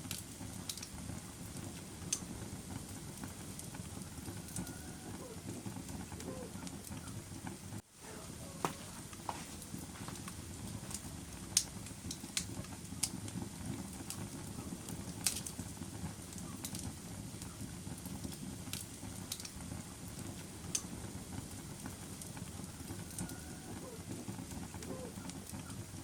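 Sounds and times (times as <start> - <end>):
fire crackles and pops: 0.0 - 26.0
low rumble of flames: 0.0 - 26.0.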